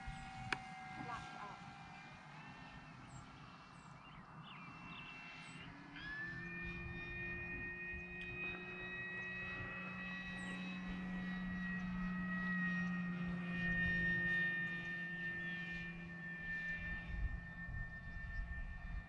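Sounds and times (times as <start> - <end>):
model plane motor whine: 0.0 - 19.0.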